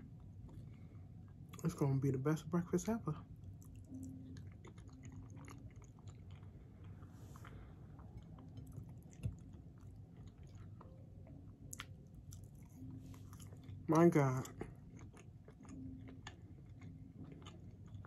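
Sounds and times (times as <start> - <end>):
faint chewing with wet clicks: 0.0 - 2.0, 2.8 - 18.0.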